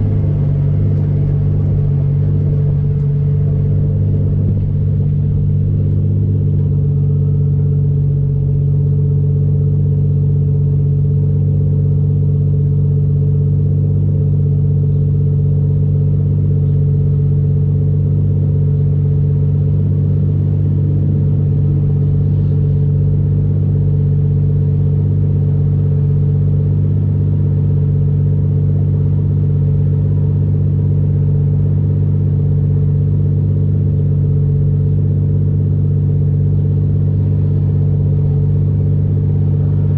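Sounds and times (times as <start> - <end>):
car engine droning steadily: 0.0 - 39.9.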